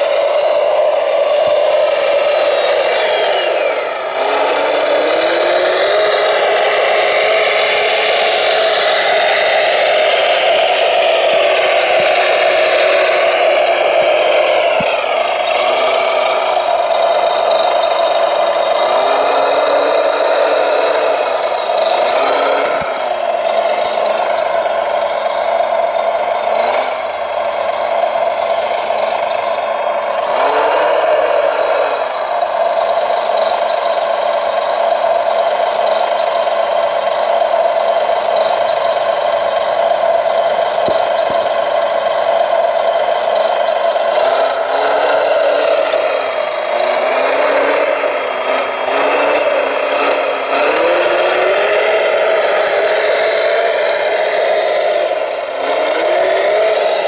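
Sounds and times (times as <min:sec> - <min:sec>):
hydraulic pump and motors whirring: 0:00.0 - 0:57.0.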